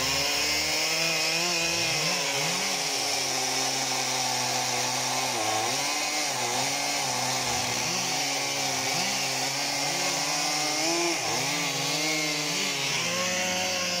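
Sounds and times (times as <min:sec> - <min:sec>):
chainsaw cutting log: 0:00.0 - 0:14.0.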